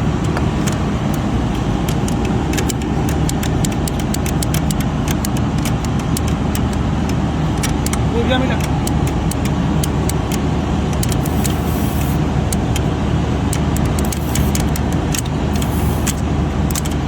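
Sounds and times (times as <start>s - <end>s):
low mechanical hum: 0.0s - 17.0s
sharp irregular clicks: 0.2s - 17.0s.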